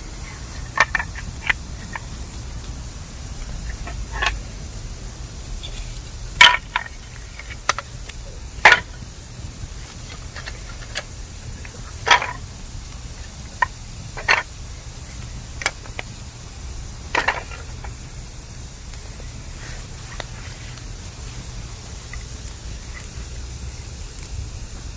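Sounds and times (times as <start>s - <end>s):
bamboo fire crackling and popping: 0.0s - 24.9s.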